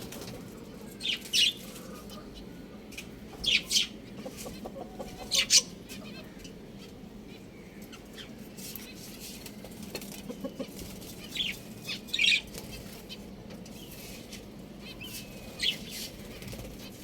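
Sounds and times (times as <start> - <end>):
chickens clucking and squawking: 0.0 - 17.0
steady low background noise: 0.0 - 17.0.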